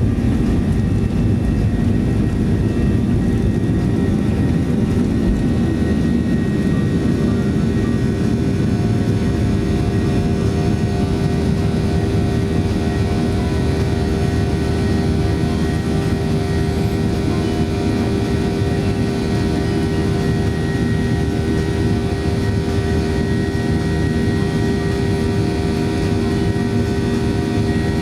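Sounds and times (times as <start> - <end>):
airplane cabin engine rush: 0.0 - 28.0.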